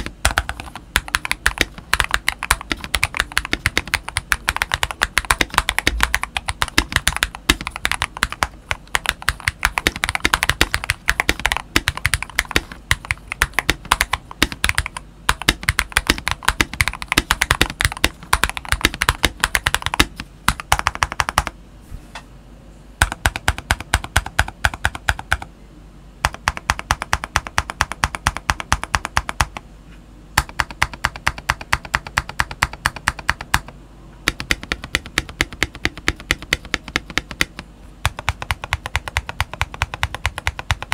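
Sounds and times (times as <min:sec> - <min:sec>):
fast typing on mechanical keyboard: 0:00.0 - 0:21.6, 0:23.0 - 0:25.5, 0:26.2 - 0:29.6, 0:30.4 - 0:40.9.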